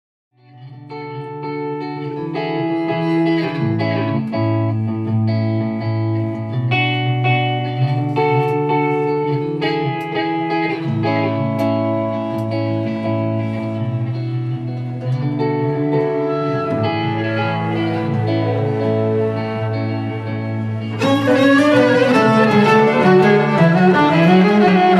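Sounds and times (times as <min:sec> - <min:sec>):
plucked string instrumental music: 0:00.4 - 0:24.9.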